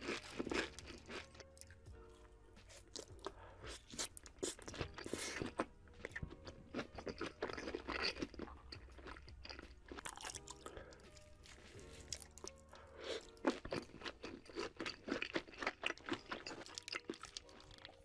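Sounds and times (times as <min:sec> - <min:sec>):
chewing with crunching: 0:00.0 - 0:18.0.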